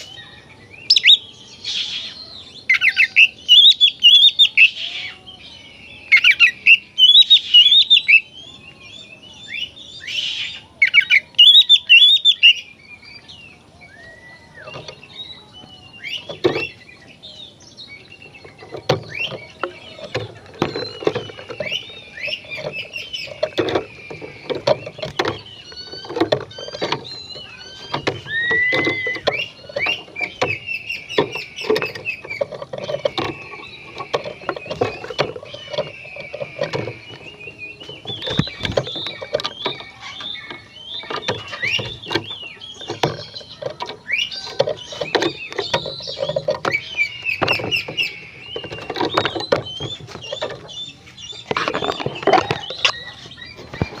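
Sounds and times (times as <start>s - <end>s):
bird singing whistles and chirps: 0.0s - 54.0s.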